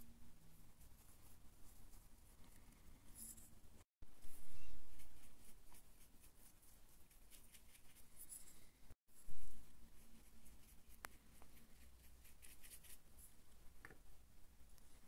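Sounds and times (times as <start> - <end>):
paintbrush scratchy strokes: 0.6 - 3.4, 4.1 - 13.4.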